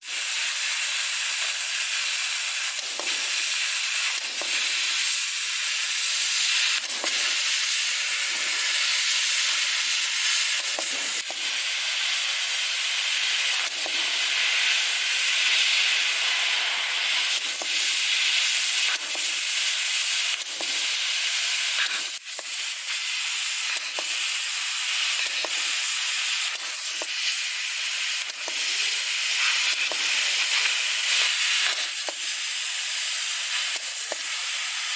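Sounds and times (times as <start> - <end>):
laser gas jet hissing: 0.0 - 34.9.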